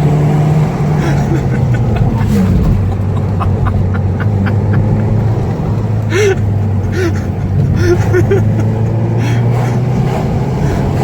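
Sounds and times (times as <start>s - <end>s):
car engine droning at steady revs: 0.0s - 11.0s.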